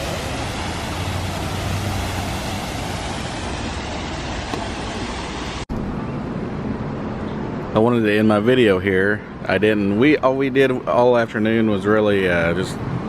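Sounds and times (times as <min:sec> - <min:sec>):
rushing outdoor noise: 0:00.0 - 0:13.0.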